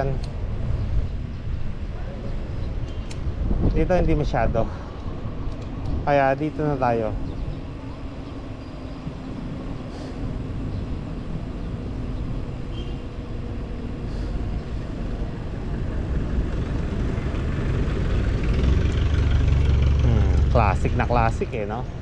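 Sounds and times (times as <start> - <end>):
bicycle road noise: 0.0 - 22.0
traffic noise: 0.0 - 22.0
wind rumbling on microphone: 0.0 - 22.0.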